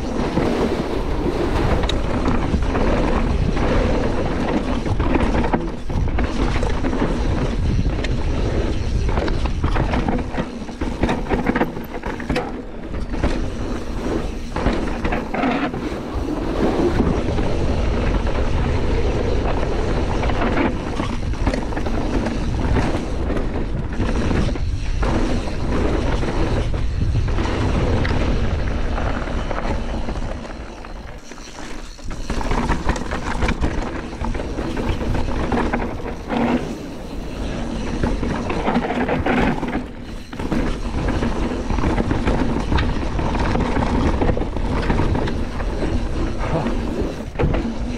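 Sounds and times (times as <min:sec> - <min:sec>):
bike rattling: 0:00.0 - 0:47.9
bike tyre and wind noise: 0:00.0 - 0:47.9.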